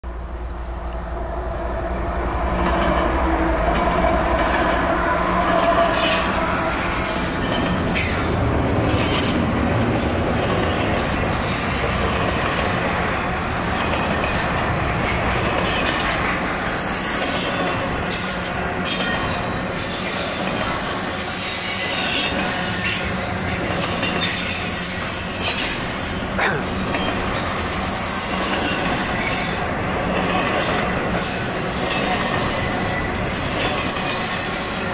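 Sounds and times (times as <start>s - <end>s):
freight train rumbling and rattling: 0.0s - 34.9s
train wheel squeal: 2.6s - 12.6s, 13.3s - 26.3s, 26.9s - 34.9s.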